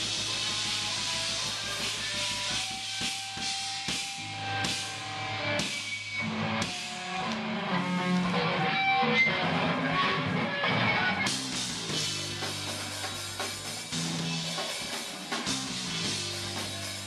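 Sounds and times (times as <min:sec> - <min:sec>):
punk band playing: 0:00.0 - 0:17.0.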